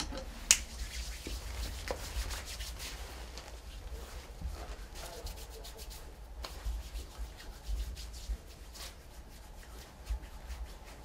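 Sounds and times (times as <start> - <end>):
hands rubbing together: 0.3 - 11.0.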